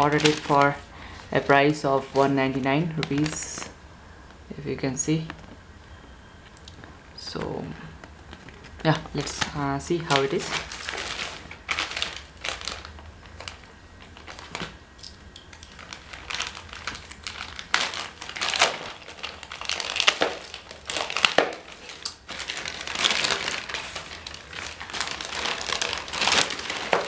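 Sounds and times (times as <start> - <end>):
packaging crinkling and rustling: 0.0 - 3.8, 6.5 - 27.0.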